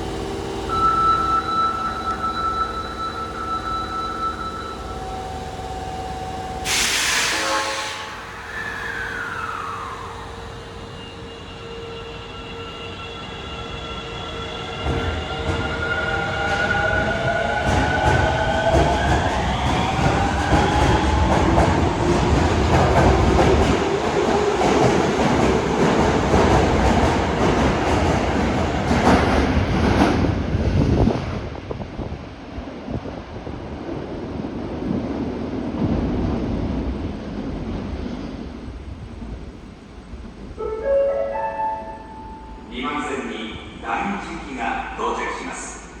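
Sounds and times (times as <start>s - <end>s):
rumble of train wheels: 0.0s - 46.0s
subway train motors whining: 0.0s - 46.0s.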